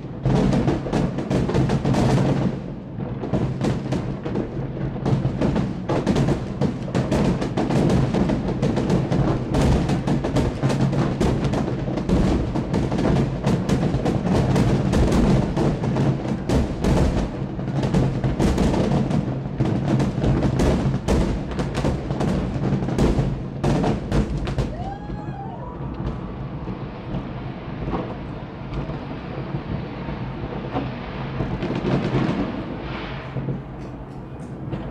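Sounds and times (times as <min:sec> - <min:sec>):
fireworks bursting: 0:00.0 - 0:34.9.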